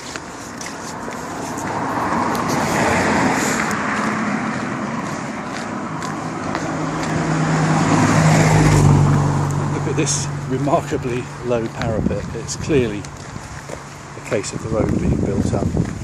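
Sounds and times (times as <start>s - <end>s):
car passing by: 0.0s - 16.0s
vehicle engine hum: 0.0s - 16.0s.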